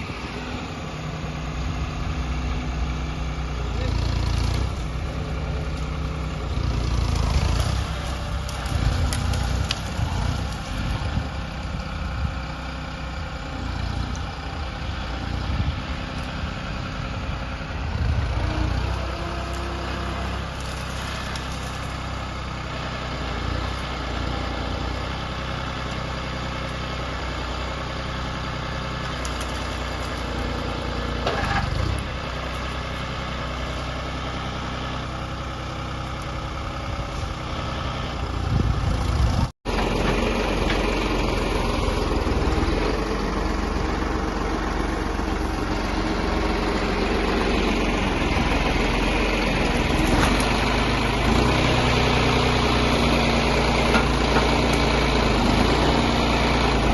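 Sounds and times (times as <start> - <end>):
heavy machine engine idling: 0.0 - 56.9.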